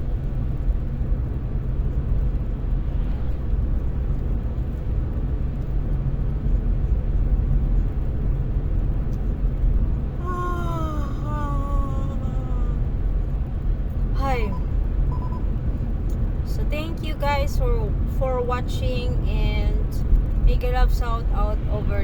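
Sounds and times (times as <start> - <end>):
road and engine noise inside car: 0.0 - 22.0.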